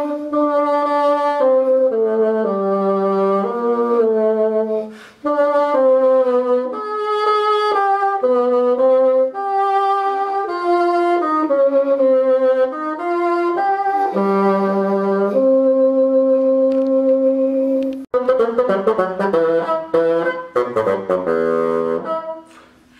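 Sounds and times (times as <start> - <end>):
bassoon slow melody: 0.0 - 22.9.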